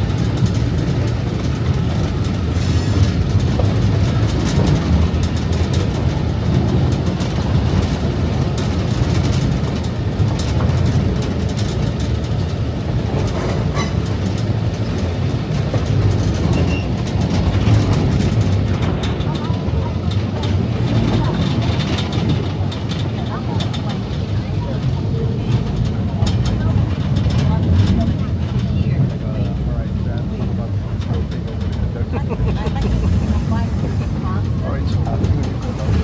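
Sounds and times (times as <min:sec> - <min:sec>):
train car rumble: 0:00.0 - 0:36.0
train wheels clacking over rails: 0:00.0 - 0:36.0.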